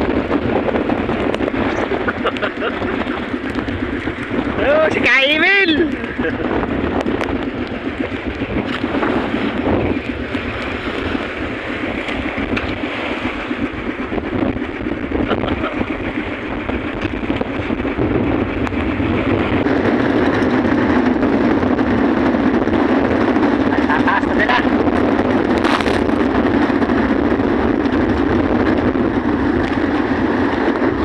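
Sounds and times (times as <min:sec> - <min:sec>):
choppy sea washing around boat: 0:00.0 - 0:31.0
wind rushing over microphone: 0:00.0 - 0:31.0.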